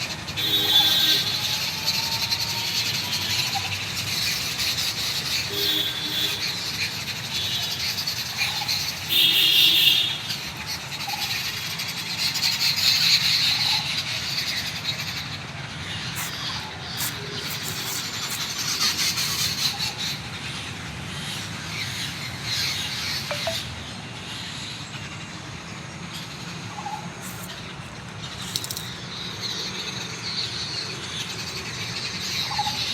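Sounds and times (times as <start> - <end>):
small birds chirping and twittering: 0.0 - 32.9.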